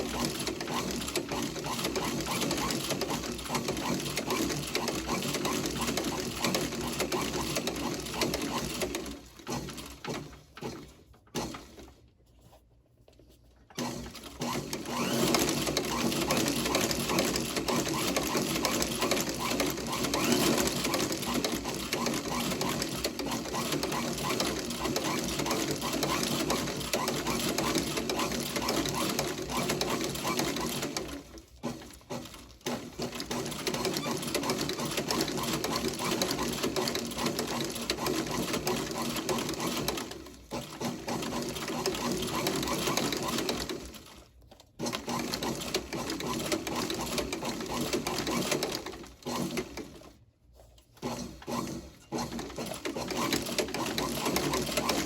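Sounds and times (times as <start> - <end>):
sewing machine running fast: 0.0 - 11.8, 13.8 - 44.2, 44.8 - 50.1, 51.0 - 55.0.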